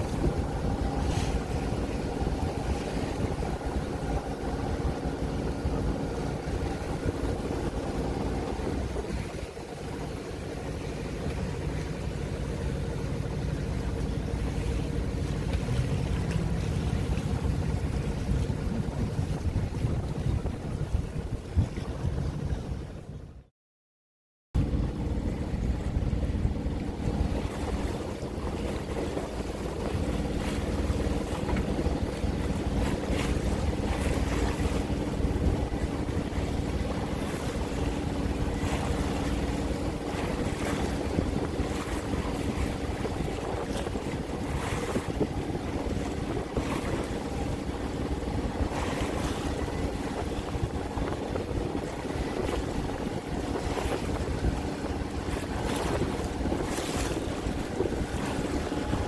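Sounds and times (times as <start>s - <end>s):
water slapping hull: 0.0s - 23.3s, 24.6s - 59.0s
boat motor running: 0.0s - 23.5s, 24.6s - 59.0s
wind buffeting microphone: 0.0s - 23.5s, 24.6s - 59.0s.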